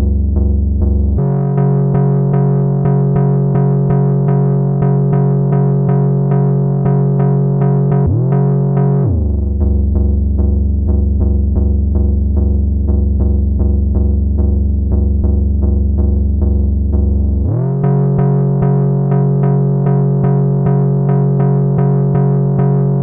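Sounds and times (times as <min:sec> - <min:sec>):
synthesizer bass notes: 0:00.0 - 0:23.0.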